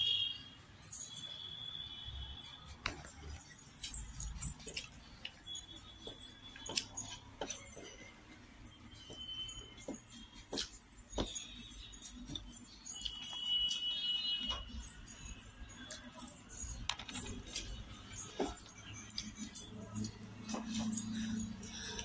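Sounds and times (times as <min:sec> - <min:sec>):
metallic clinks on plate: 0:02.4 - 0:22.0.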